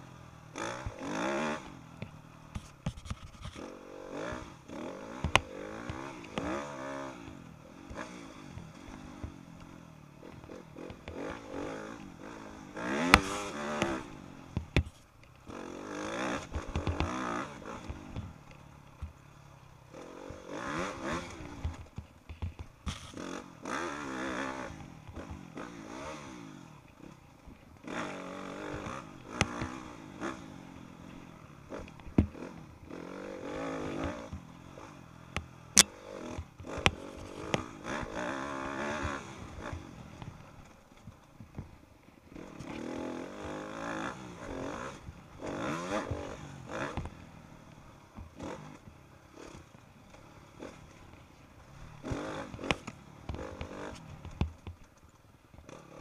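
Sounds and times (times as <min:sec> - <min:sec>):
dirt bike engine revving: 0:00.0 - 0:54.7, 0:55.6 - 0:56.0.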